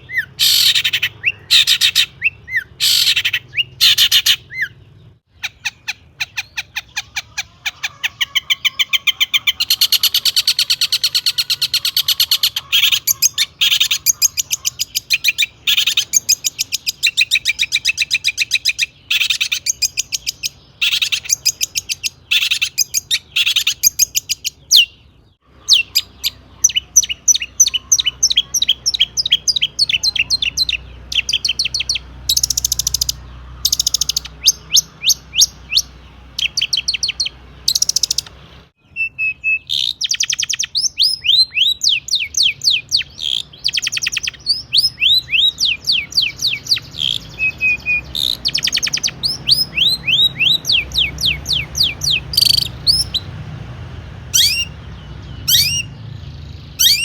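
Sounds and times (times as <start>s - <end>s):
bird singing rapid chirps: 0.0s - 57.0s.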